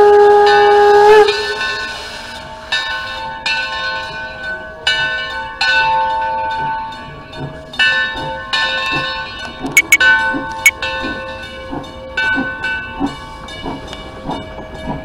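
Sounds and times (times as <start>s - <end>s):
locomotive bell ringing: 0.5s - 15.0s.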